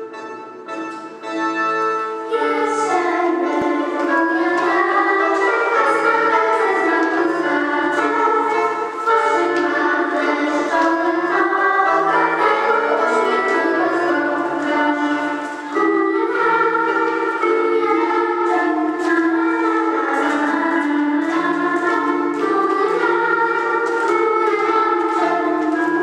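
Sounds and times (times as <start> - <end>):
music with voices singing: 0.0 - 26.0.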